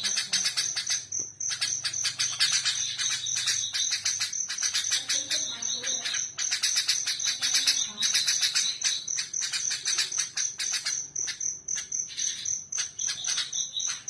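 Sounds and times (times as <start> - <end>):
bird singing fast sharp chirps: 0.0 - 14.0.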